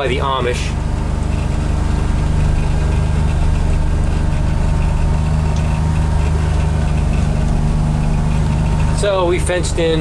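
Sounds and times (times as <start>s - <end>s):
utility vehicle engine humming: 0.0s - 10.0s.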